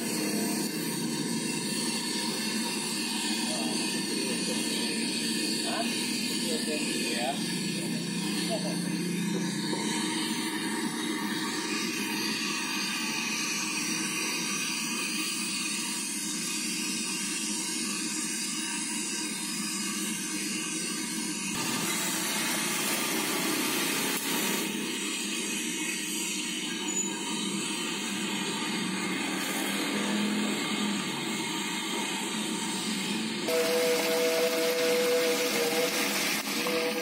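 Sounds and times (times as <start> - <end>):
oil sizzling in a pan: 0.0 - 37.0.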